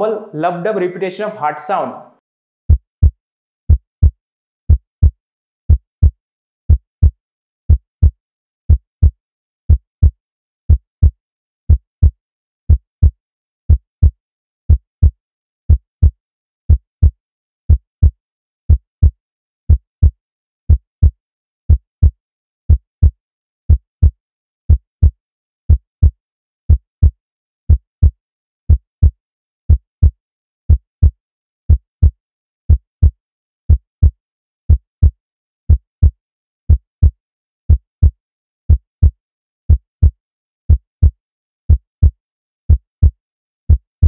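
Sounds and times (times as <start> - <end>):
heartbeat lub-dub thumps: 2.7 - 43.9.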